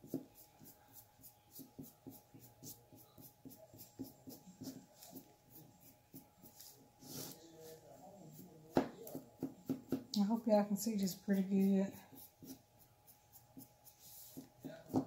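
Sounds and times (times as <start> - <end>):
paintbrush scratchy strokes: 0.1 - 9.1, 11.0 - 14.8.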